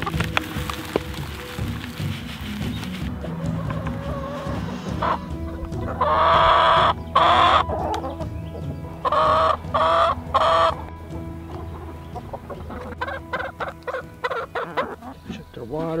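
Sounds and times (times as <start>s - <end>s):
chickens clucking and calling: 0.0s - 15.6s.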